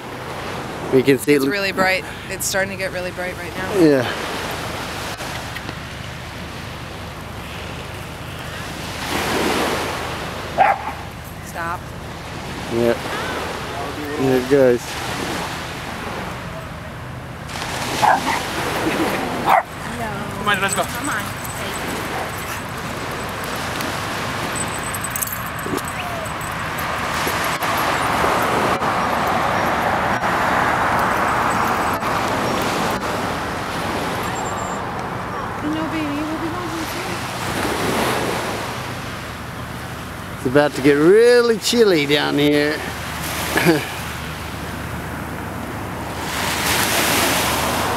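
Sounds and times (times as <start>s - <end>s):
road traffic rushing: 0.0s - 47.9s
small waves on shore: 0.0s - 47.9s
vehicle passing: 7.4s - 47.9s.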